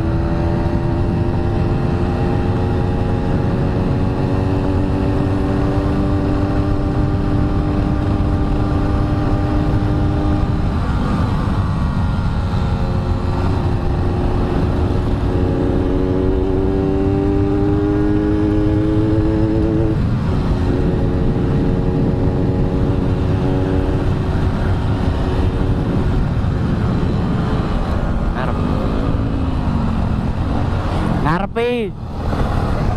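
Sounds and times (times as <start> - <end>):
low wind rumble: 0.0 - 32.9.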